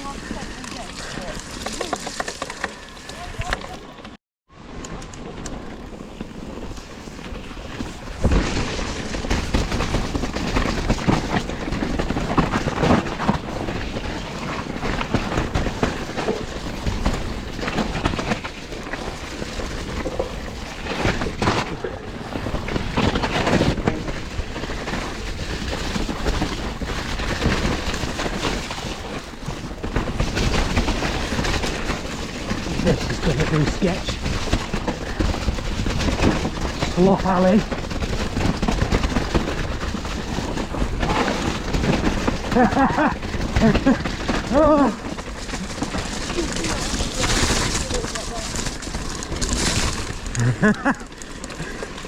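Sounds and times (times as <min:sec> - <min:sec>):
mountain bike rattling over trail: 0:00.0 - 0:52.0.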